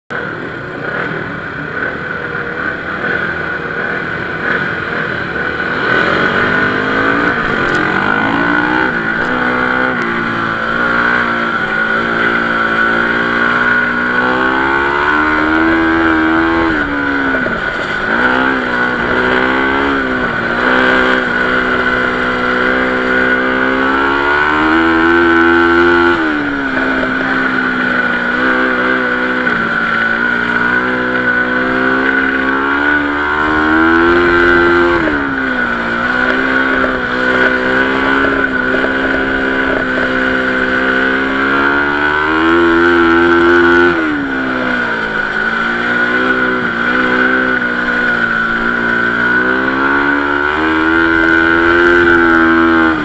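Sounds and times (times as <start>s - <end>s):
dirt bike engine revving: 0.1s - 53.0s
high-pitched whine: 0.1s - 53.0s.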